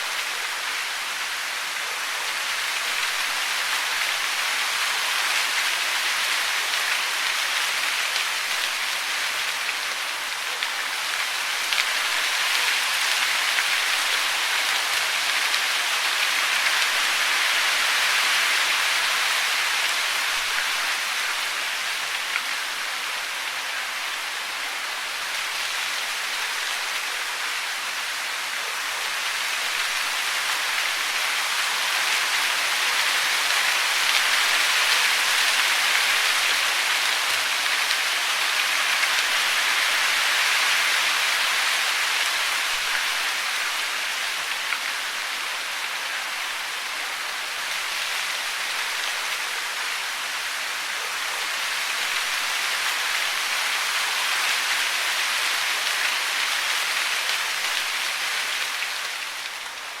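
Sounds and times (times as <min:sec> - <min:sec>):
falling water hiss: 0:00.0 - 1:00.0.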